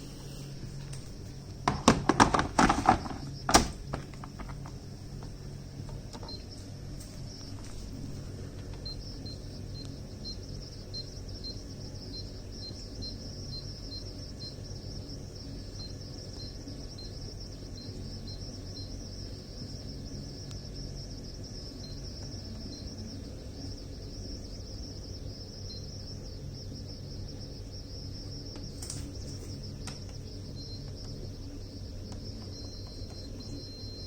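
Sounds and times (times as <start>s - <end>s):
insects chirping: 0.0s - 34.0s
steady low hum: 0.0s - 34.0s.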